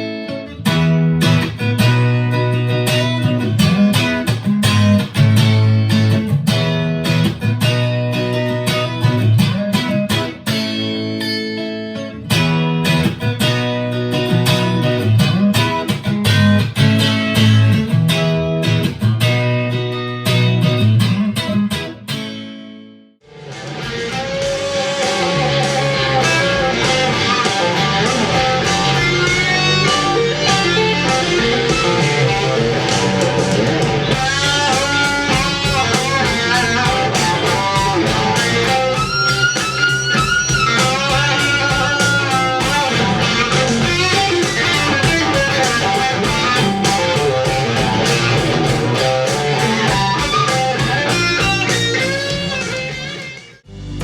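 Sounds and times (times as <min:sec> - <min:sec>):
electric guitar lead lines: 0:00.0 - 0:22.5, 0:23.2 - 0:54.0
rock backing track: 0:00.0 - 0:54.0.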